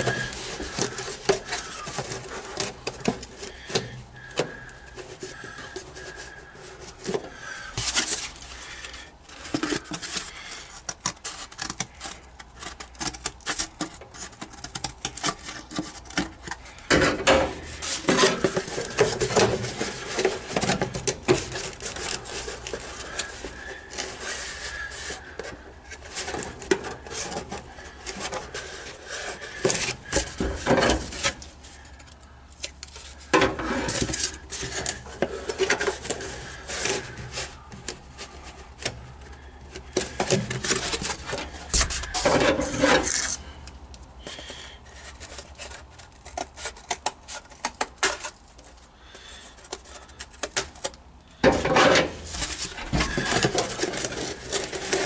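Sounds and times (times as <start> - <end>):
cardboard scraping against metal: 0.0 - 55.0.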